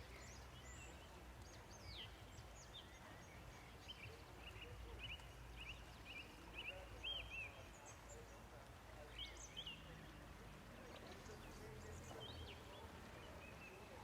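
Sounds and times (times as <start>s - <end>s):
small birds singing: 0.0s - 14.0s.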